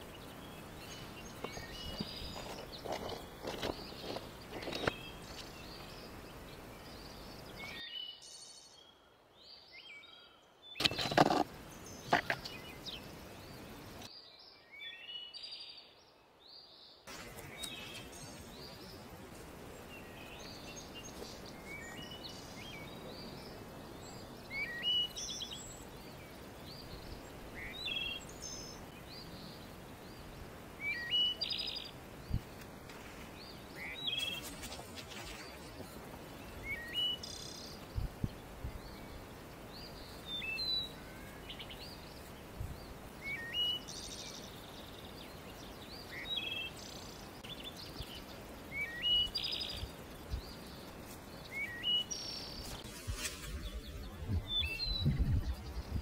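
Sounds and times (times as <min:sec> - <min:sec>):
outdoor background hiss: 0:00.0 - 0:56.0
songbird chirping: 0:00.0 - 0:56.0.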